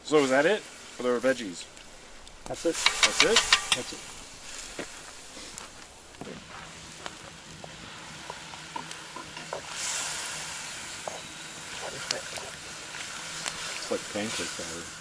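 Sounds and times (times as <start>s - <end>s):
loud hiss: 0.0s - 15.0s
stew sizzling over campfire: 0.0s - 15.0s.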